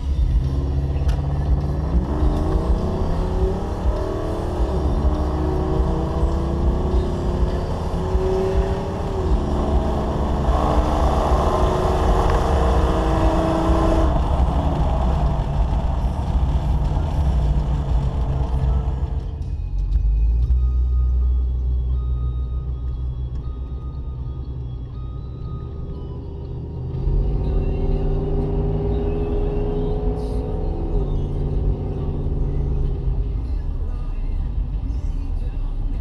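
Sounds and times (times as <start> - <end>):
car engine revving: 0.0 - 19.5, 20.4 - 34.3.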